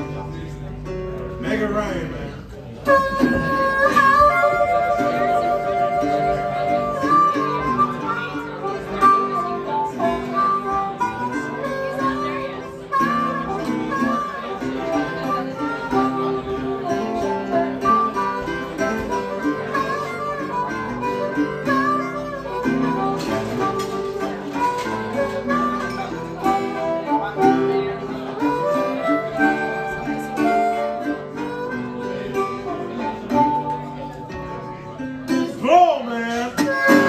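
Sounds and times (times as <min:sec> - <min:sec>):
live band playing: 0:00.0 - 0:37.0.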